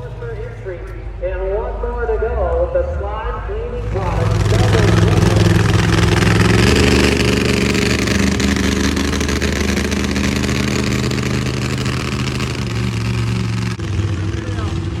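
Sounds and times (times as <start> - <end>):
monster truck engine revving: 0.0 - 1.2, 2.8 - 15.0.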